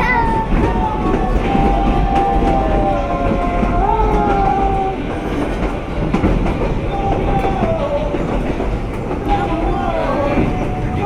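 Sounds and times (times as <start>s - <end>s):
train clattering on track: 0.0s - 11.0s.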